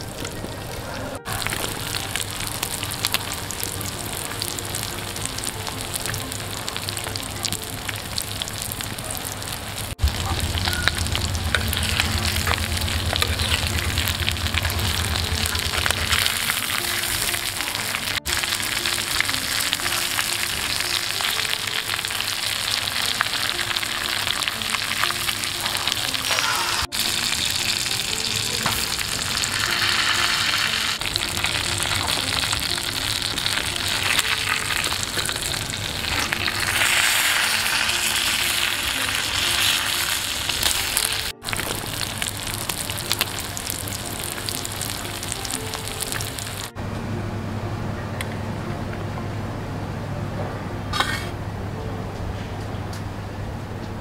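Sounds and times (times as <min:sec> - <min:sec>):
light background music: 0:00.0 - 0:53.8
fish sizzling in hot oil: 0:01.3 - 0:46.7.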